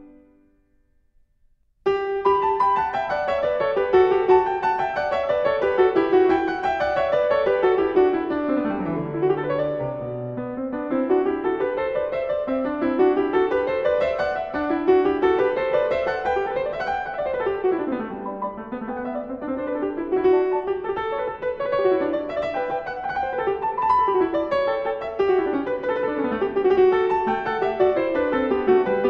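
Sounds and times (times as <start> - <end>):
solo piano music: 1.8 - 29.0.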